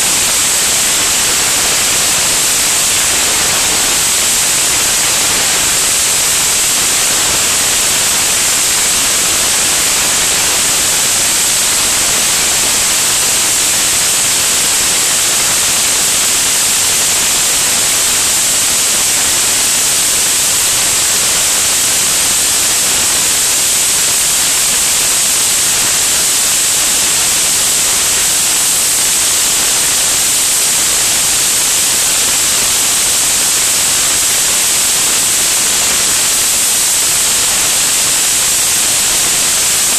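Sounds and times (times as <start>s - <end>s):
rushing airflow hiss: 0.0s - 39.9s.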